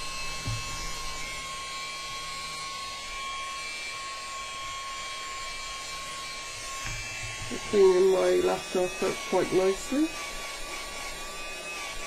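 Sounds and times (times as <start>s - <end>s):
small vacuum motor whining: 0.0s - 12.0s.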